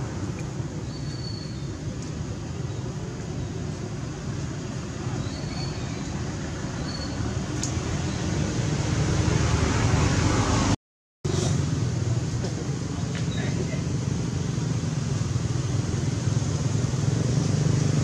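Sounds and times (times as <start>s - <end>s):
outdoor rumble and hiss: 0.0s - 18.0s.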